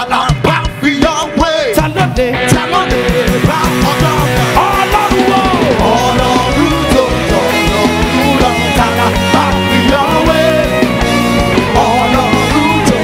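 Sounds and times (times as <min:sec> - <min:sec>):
electric guitar lead line: 0:00.0 - 0:13.0
fast drumbeat: 0:00.0 - 0:13.0
rock band playing: 0:00.0 - 0:13.0.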